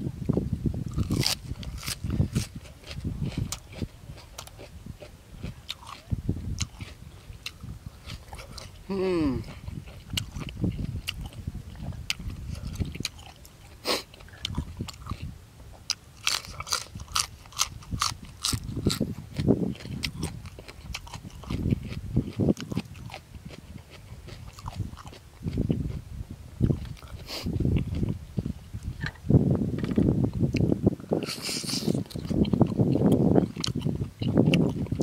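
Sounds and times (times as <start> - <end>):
person chewing: 0.9 - 26.0, 26.6 - 29.2, 29.8 - 35.0.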